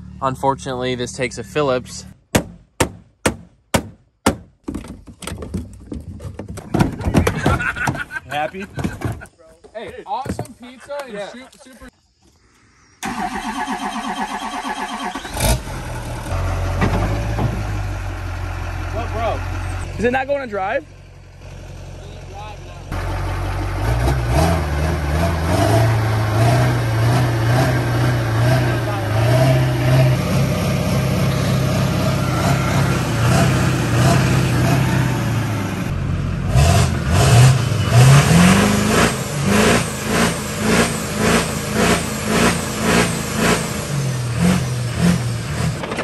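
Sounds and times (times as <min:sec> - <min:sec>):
truck engine cranking and idling: 0:00.0 - 0:09.9, 0:13.0 - 0:46.0.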